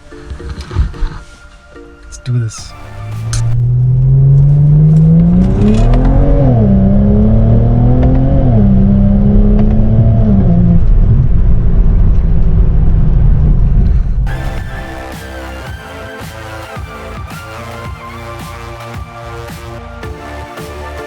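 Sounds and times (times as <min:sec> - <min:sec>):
road noise: 0:00.8 - 0:21.0
car engine accelerating: 0:02.7 - 0:21.0.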